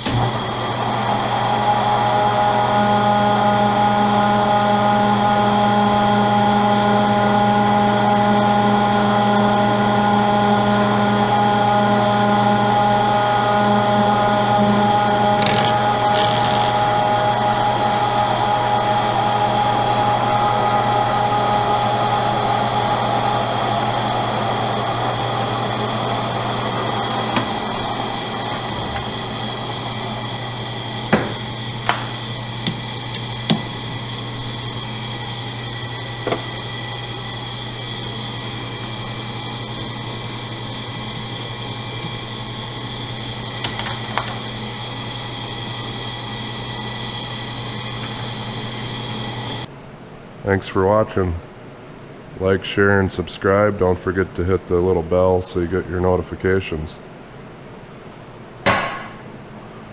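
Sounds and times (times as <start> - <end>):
higher machine tones: 0.0 - 49.7
machine electrical hum: 0.0 - 59.9.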